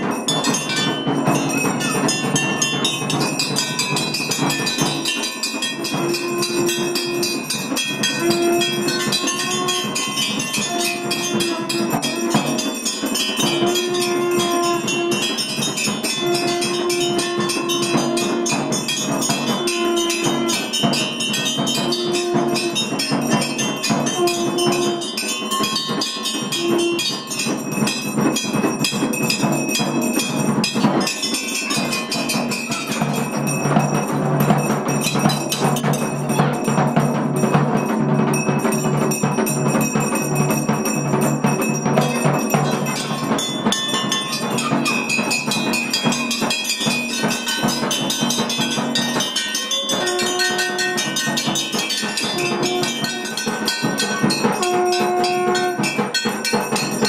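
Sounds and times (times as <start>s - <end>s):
bells clanging rapidly: 0.0s - 57.0s
drum beats: 0.0s - 57.0s.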